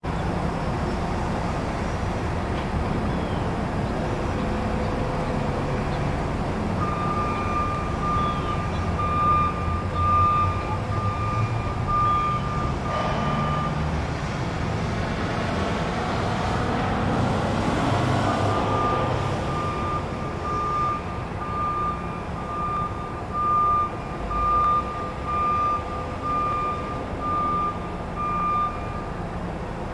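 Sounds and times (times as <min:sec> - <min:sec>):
truck engine rumble: 0:00.0 - 0:29.9
truck reversing alarm beeping: 0:00.1 - 0:14.6, 0:18.2 - 0:29.9.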